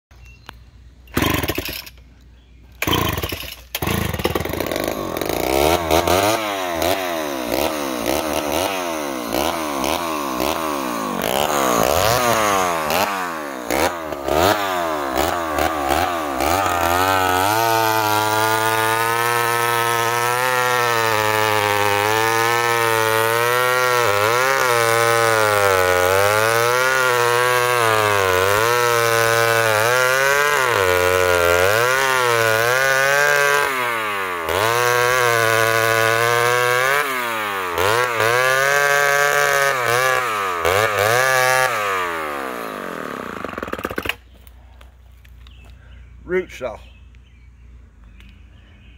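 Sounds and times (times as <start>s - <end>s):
chainsaw running at high speed: 1.1s - 1.9s, 2.8s - 44.2s.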